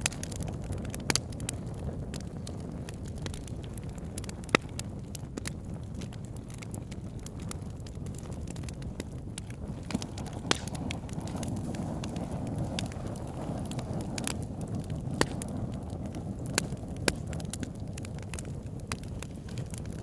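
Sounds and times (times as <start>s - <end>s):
fire crackles and pops: 0.0s - 20.0s
wood fire rushing flames: 0.0s - 20.0s.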